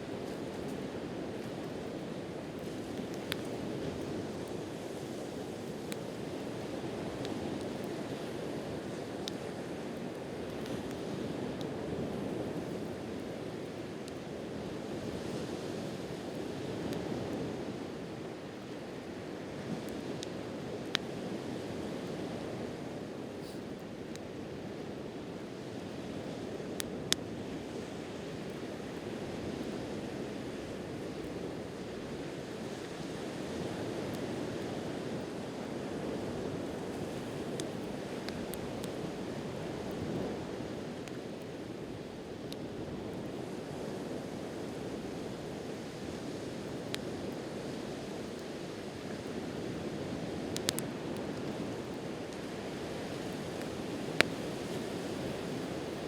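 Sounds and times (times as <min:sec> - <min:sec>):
campfire pops and crackles: 0:00.0 - 0:22.4, 0:23.3 - 0:29.9, 0:32.6 - 0:43.4, 0:46.5 - 0:47.5, 0:48.1 - 0:56.0.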